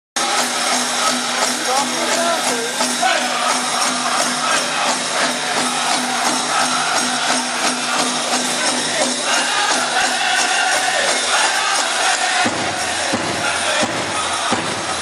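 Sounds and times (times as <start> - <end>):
big drum beating: 0.2 - 15.0
leg bells jingling: 0.2 - 15.0
voices singing: 0.2 - 15.0.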